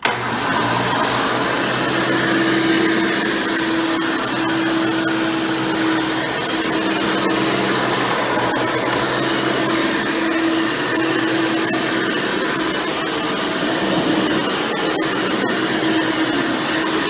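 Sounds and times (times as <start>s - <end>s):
vacuum cleaner whine: 0.0s - 17.0s.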